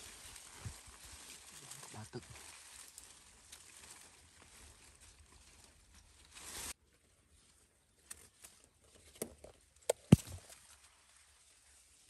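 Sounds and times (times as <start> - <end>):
leaves rustling: 0.0 - 9.2, 10.1 - 12.0.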